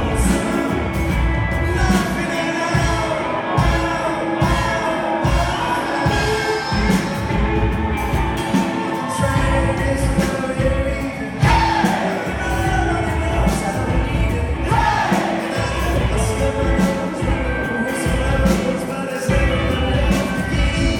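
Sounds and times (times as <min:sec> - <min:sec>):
live rock band: 0:00.0 - 0:20.9
person singing: 0:00.0 - 0:20.9.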